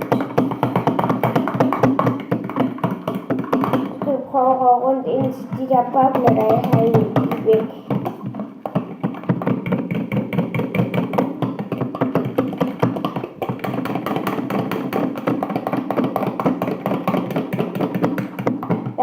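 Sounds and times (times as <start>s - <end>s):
fork tapping container sides: 0.0s - 4.1s, 5.2s - 19.0s.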